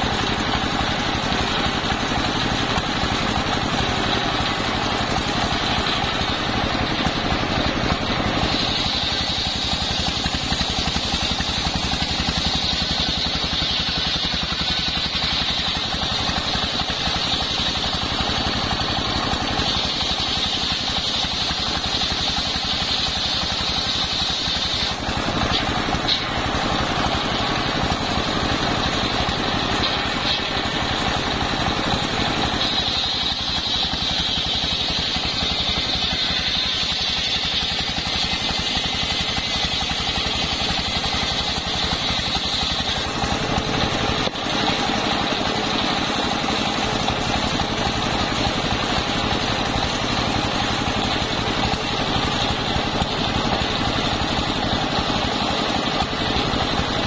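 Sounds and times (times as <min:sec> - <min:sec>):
circular saw ripping wood: 0:00.0 - 0:57.0
stationary engine running: 0:00.0 - 0:57.0.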